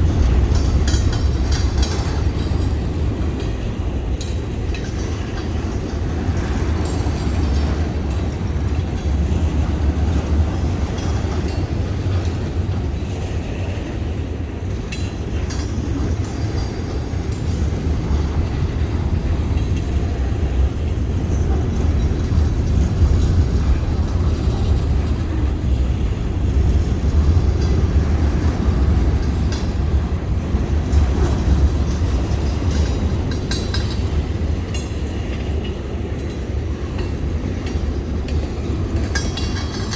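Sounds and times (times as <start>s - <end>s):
steel wheels rumbling on rails: 0.0s - 39.9s.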